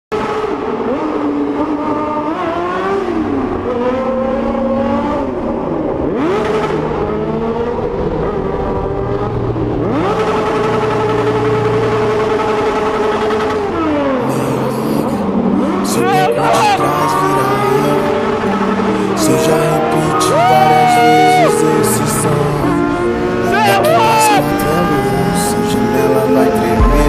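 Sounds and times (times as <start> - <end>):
vehicle engines revving: 0.1 - 27.0.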